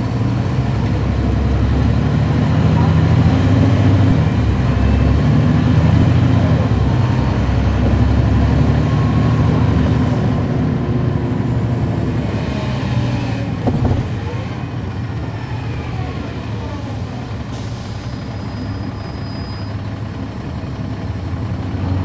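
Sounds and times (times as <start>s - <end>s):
bus diesel engine under load: 0.0s - 22.0s.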